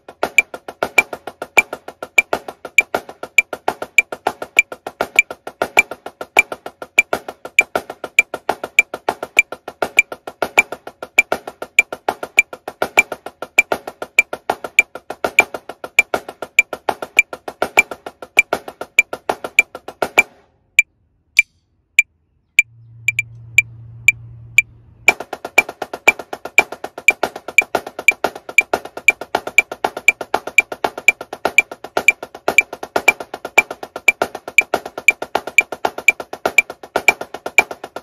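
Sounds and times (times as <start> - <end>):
metronome clicks: 0.0 - 20.3, 23.1 - 37.8
snare drum playing: 0.0 - 20.4, 25.1 - 38.0.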